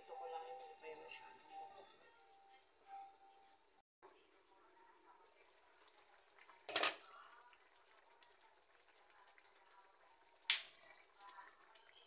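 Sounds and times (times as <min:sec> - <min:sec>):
stew simmering in a pan: 0:00.0 - 0:12.0.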